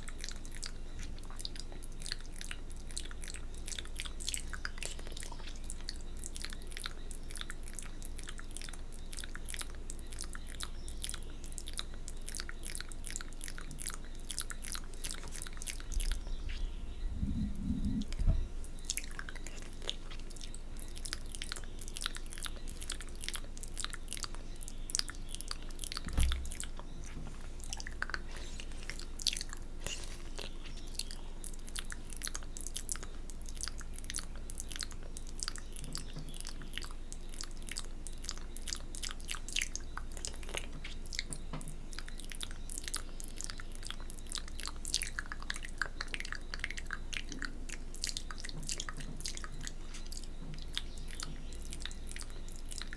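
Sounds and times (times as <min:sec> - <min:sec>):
lip smacks: 0:00.0 - 0:52.9
tongue clicks: 0:00.0 - 0:52.9.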